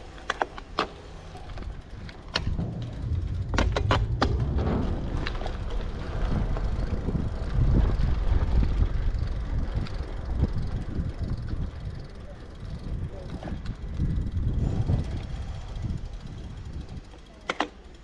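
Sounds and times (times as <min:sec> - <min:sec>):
bicycle clicks and knocks: 0:00.0 - 0:18.0
wind rumbling on microphone: 0:01.3 - 0:17.2.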